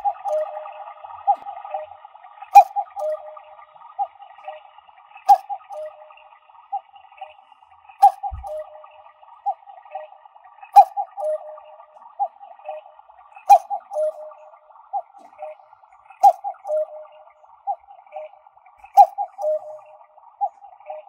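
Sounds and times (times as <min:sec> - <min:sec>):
electronic cuckoo clock call: 0:00.0 - 0:04.6, 0:05.2 - 0:21.0.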